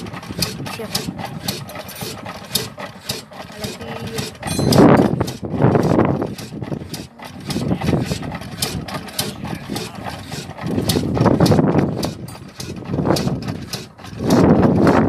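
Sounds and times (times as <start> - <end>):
oil engine running: 0.0 - 15.0
sharp engine ticking: 0.0 - 15.0.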